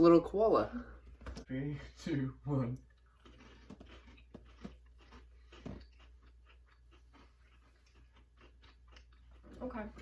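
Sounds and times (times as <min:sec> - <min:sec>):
faint chewing and crunching: 0:01.1 - 0:10.0.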